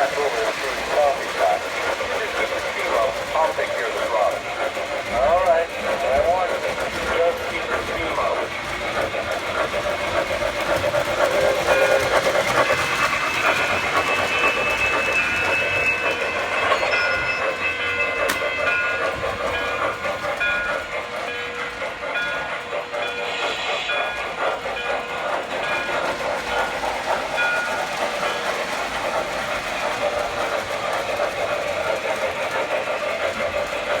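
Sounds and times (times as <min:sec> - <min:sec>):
model train running on track: 0:00.0 - 0:34.0.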